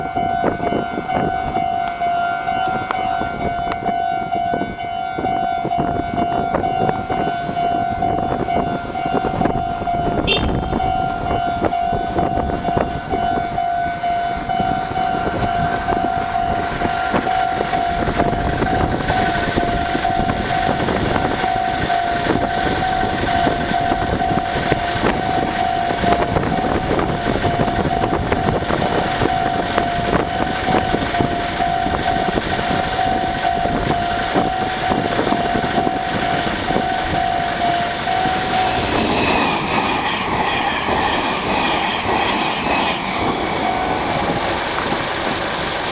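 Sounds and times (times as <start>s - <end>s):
level-crossing alarm bell: 0.0s - 45.9s
rush of approaching train: 0.0s - 45.9s.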